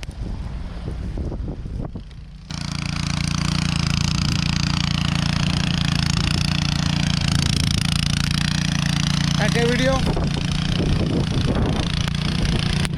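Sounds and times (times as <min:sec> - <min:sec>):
wind noise: 0:00.0 - 0:02.5, 0:03.8 - 0:12.9
engine running loudly: 0:02.0 - 0:12.9.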